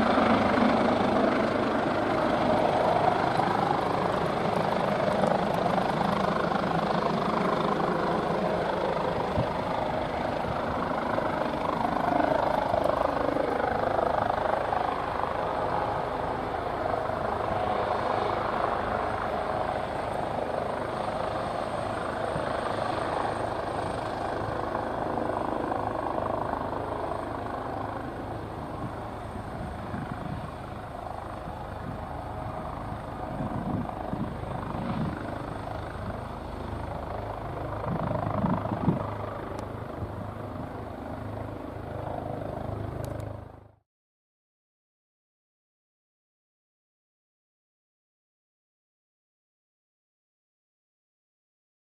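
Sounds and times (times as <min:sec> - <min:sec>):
helicopter rotor and turbine: 0:00.0 - 0:43.8.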